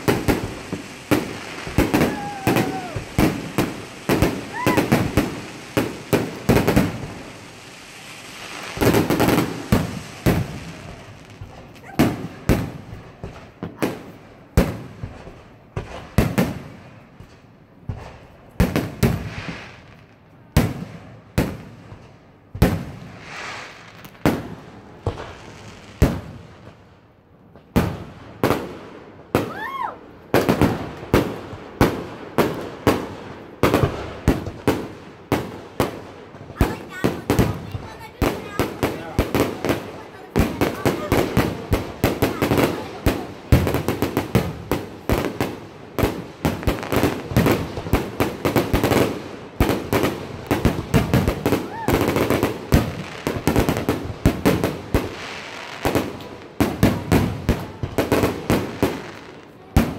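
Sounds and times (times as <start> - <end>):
firework crackling: 0.0 - 59.9.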